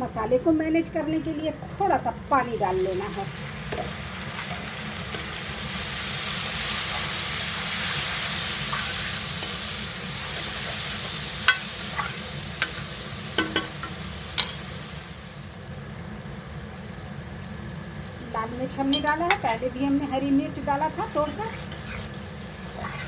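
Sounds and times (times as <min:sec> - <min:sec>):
masala sizzling in hot oil: 0:02.0 - 0:15.9, 0:18.3 - 0:23.0.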